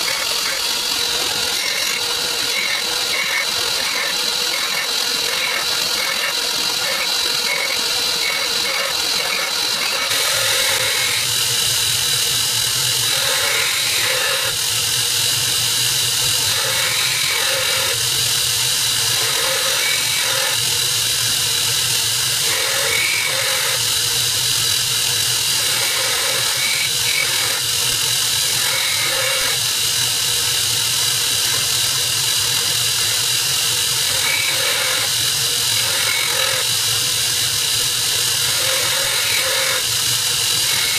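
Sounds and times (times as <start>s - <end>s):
belt grinder grinding steel: 0.0s - 40.9s.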